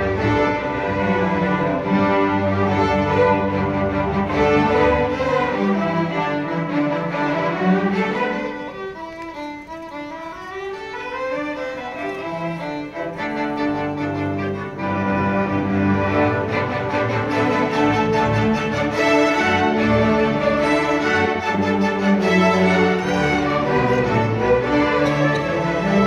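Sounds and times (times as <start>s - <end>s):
string orchestra playing: 0.0s - 26.0s.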